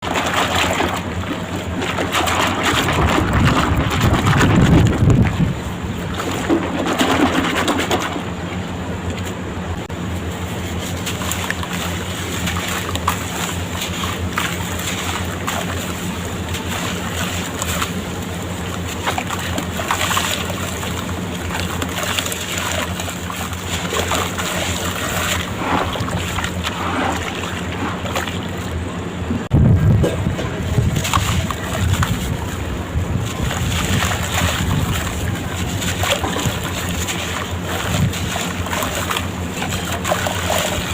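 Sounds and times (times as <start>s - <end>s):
blocks crumbling in water: 0.0s - 8.4s, 11.0s - 28.8s, 30.0s - 32.6s, 33.2s - 40.9s
low hum: 0.0s - 40.9s.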